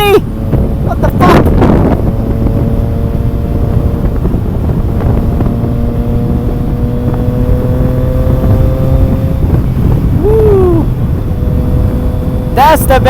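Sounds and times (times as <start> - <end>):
motorcycle engine at speed: 0.0 - 13.0
wind rushing over microphone: 0.0 - 13.0.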